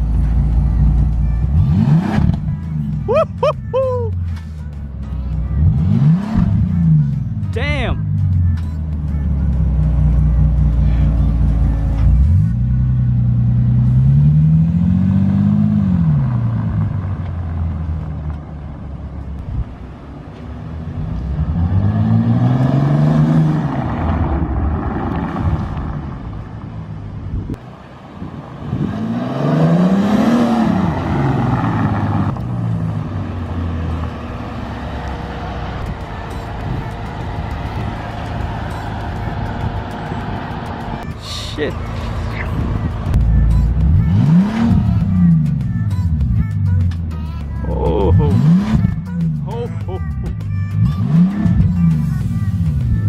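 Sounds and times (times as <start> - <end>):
car engine revving: 0.0 - 3.2, 4.2 - 19.0, 19.8 - 49.6, 50.6 - 53.0.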